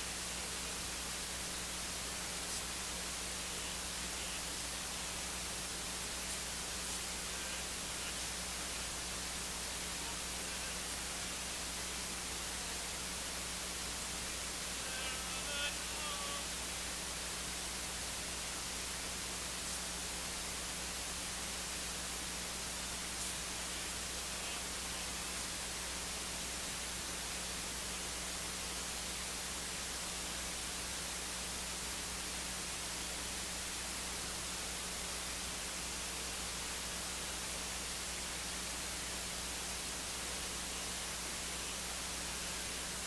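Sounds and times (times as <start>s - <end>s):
low constant hum: 0.0s - 43.0s
steady hiss: 0.0s - 43.0s.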